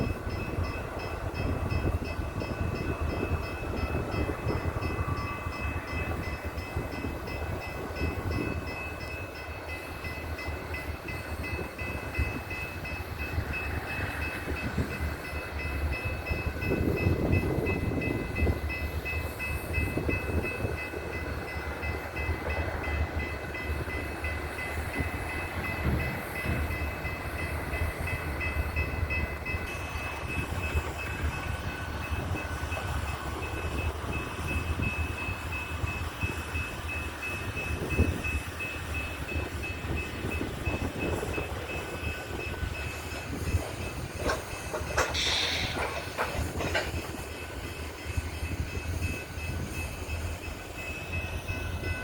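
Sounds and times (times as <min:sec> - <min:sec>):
train cars rumbling: 0:00.0 - 0:52.0.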